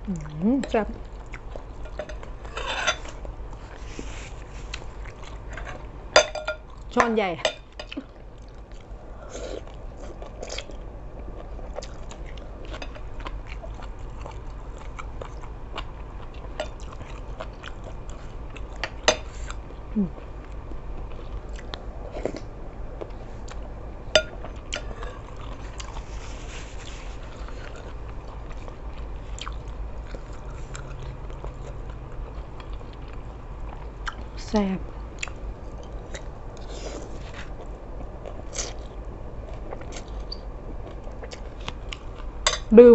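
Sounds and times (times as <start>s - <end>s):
person chewing food: 0.0s - 42.7s
low hum: 0.0s - 42.9s.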